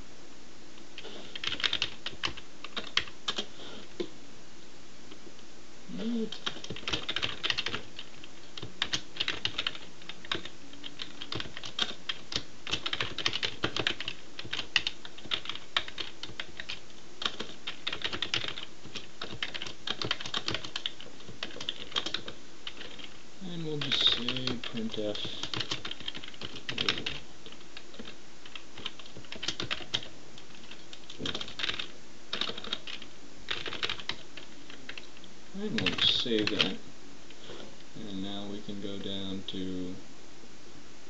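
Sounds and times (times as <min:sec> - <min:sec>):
keyboard typing: 0:01.0 - 0:04.1, 0:06.1 - 0:23.2, 0:23.8 - 0:36.8.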